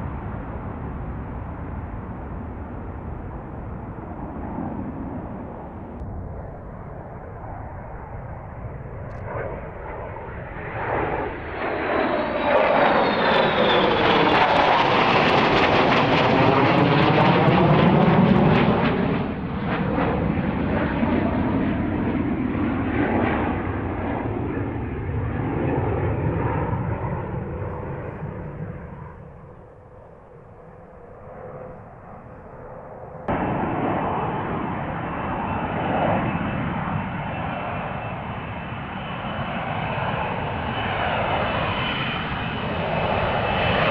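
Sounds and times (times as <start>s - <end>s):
jet engine noise: 0.0s - 43.9s.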